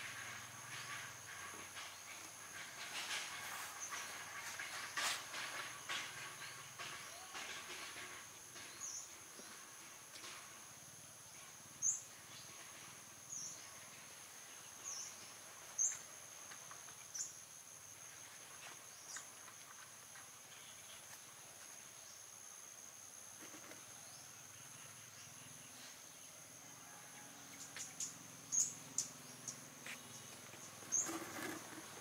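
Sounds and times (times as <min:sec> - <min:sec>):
high insect trill: 0:00.0 - 0:32.0.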